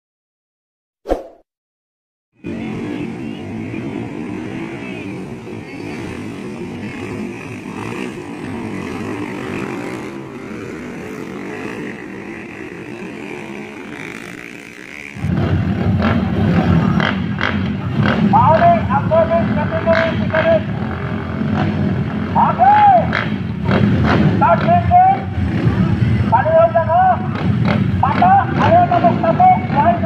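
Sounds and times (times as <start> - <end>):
dirt bike engines racing: 2.4 - 30.0.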